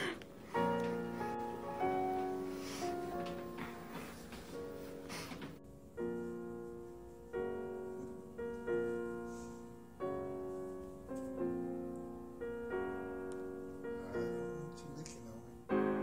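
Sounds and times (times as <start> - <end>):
slow soft piano chords: 0.0 - 16.0.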